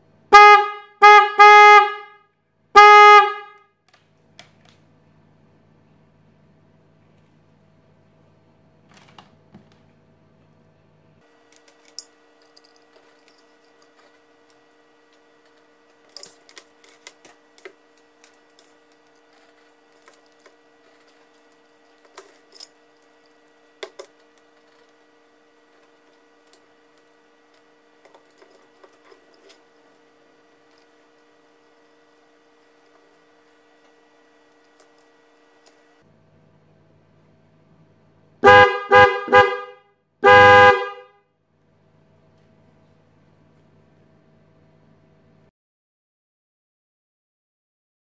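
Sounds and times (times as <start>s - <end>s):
faint steady hum: 0.0s - 45.5s.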